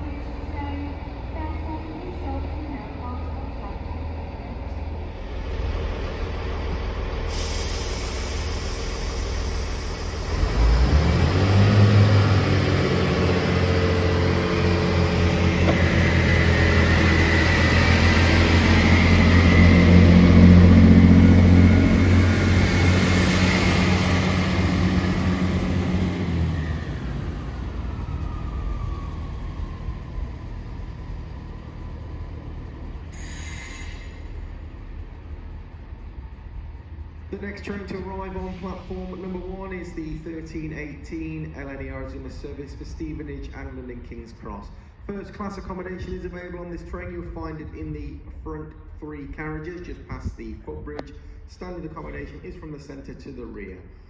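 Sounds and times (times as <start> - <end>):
diesel train engines: 0.0 - 54.0.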